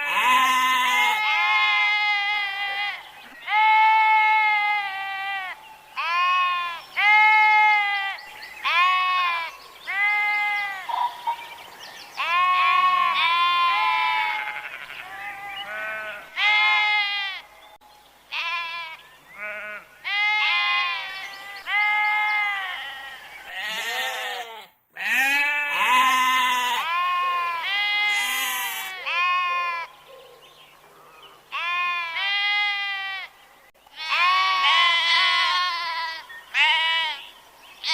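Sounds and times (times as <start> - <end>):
sheep bleating: 0.0 - 10.9, 12.2 - 17.5, 18.3 - 29.9, 31.5 - 33.3, 33.9 - 37.9.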